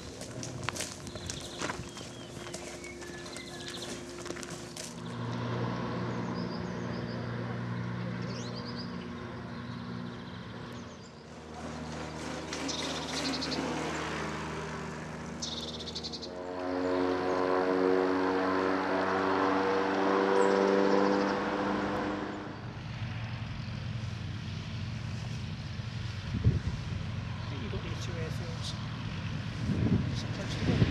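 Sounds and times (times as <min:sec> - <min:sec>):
motor engine passing: 0:00.0 - 0:30.9.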